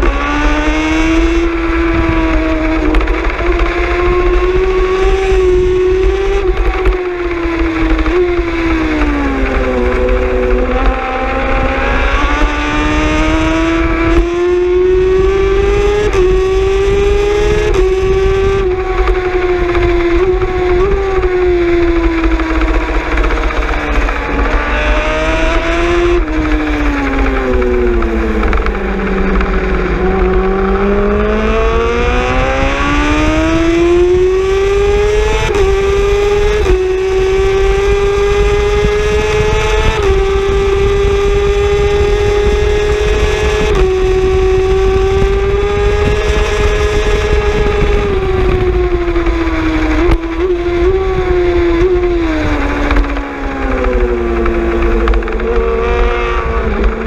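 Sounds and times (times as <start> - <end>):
racing motorcycle engine revving: 0.0 - 57.0.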